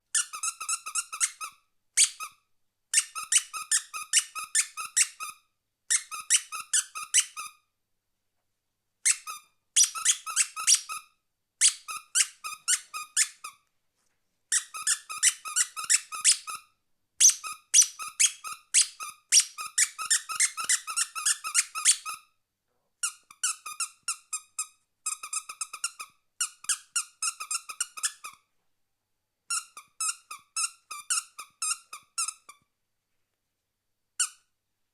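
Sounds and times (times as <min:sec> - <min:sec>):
squeaky toy squeaks: 0:00.1 - 0:07.6, 0:09.0 - 0:13.6, 0:14.5 - 0:22.3, 0:23.0 - 0:28.5, 0:29.5 - 0:32.6, 0:34.2 - 0:34.5.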